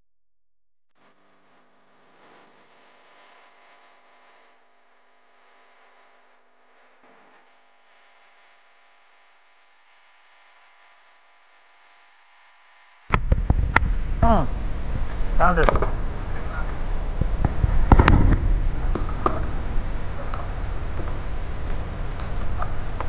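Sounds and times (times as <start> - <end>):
faint steady hum: 0.9 - 23.0.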